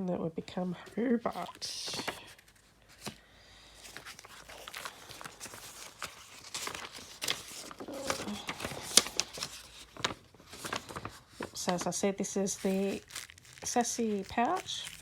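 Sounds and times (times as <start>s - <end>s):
packaging rustling and crinkling: 1.2s - 15.0s.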